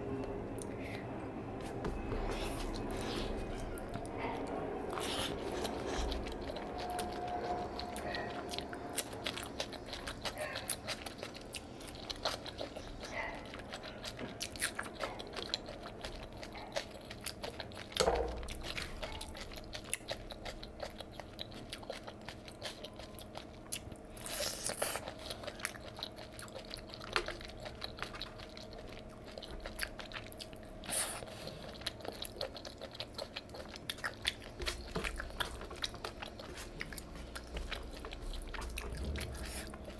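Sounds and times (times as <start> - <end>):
chewing and wet mouth sounds: 0.1 - 39.9.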